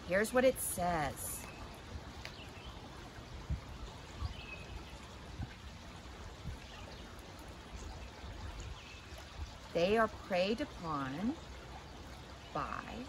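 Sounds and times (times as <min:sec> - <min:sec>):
creek burbling over rocks: 0:00.0 - 0:13.0.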